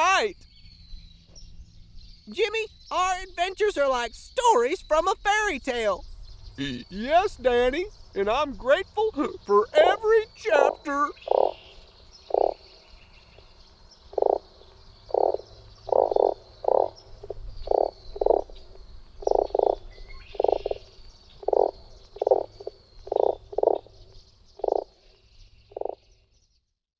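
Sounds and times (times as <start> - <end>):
frogs croaking: 2.3 - 26.1.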